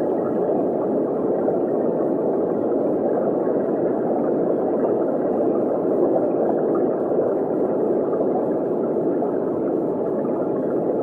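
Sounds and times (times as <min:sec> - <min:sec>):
muffled underwater water rush: 0:00.0 - 0:11.0.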